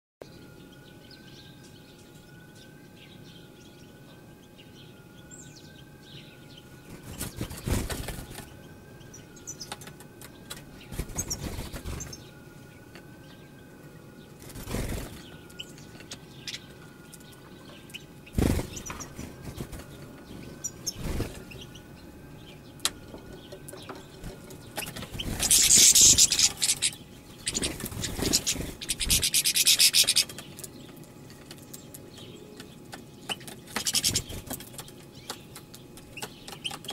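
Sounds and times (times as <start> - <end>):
birds twittering: 0.2 - 36.9.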